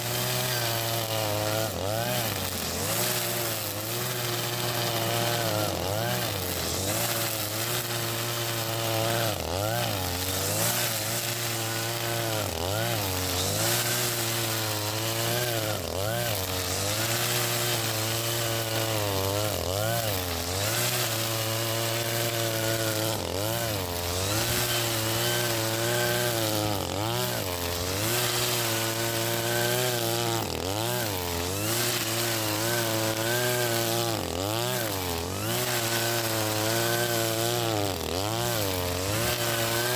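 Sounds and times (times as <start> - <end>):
brushcutter running at high revs: 0.0 - 39.9.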